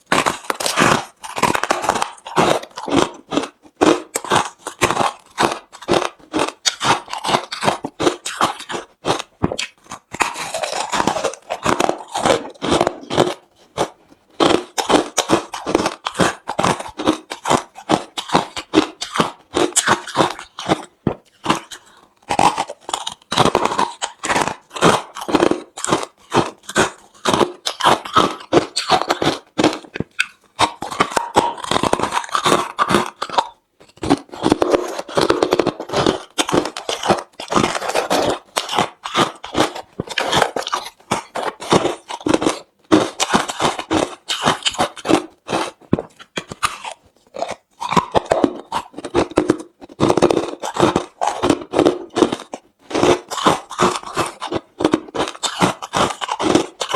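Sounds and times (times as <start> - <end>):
chewing crushed ice: 0.0 - 56.9.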